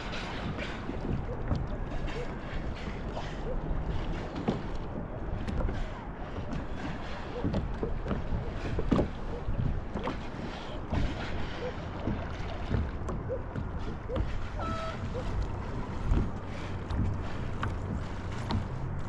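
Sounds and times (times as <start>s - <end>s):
water splashing against a kayak: 0.0s - 19.0s
wind rumbling on microphone: 0.0s - 19.0s.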